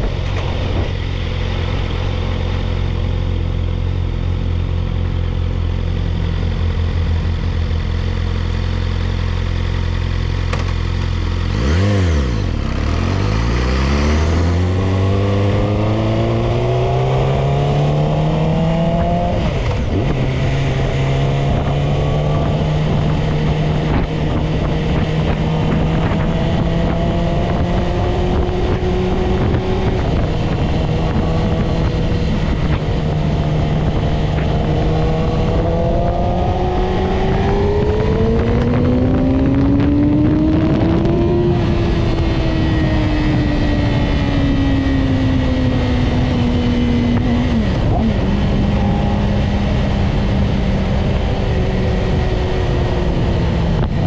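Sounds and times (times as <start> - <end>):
wind noise rushing: 0.0 - 3.8, 11.5 - 54.0
motorcycle engine revving: 0.0 - 54.0.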